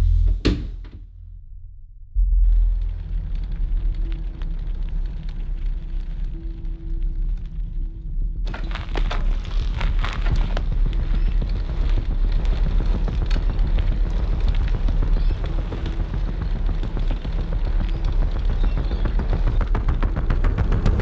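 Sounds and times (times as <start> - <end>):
deep low rumble: 0.0 - 21.0.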